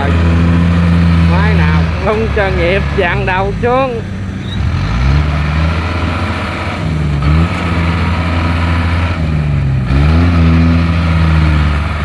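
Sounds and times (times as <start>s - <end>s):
cart engine running hard: 0.0s - 12.0s.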